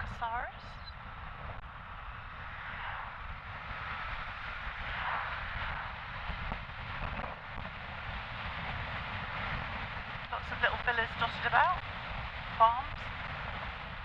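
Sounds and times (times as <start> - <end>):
road noise: 0.0 - 14.0
wind rush: 0.0 - 14.0.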